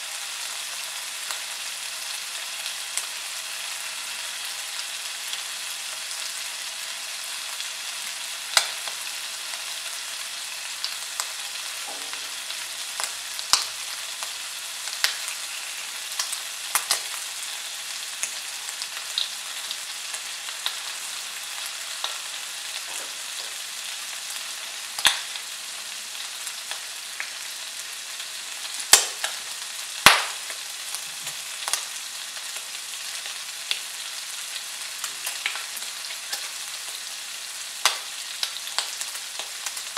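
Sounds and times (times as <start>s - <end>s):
bacon sizzling in a frying pan: 0.0s - 39.9s.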